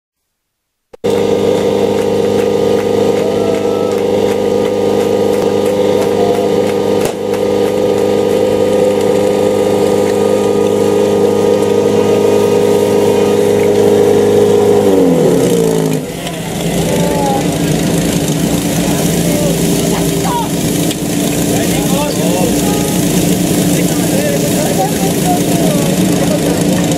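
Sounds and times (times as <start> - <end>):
pump petrol engine running: 1.0 - 26.9.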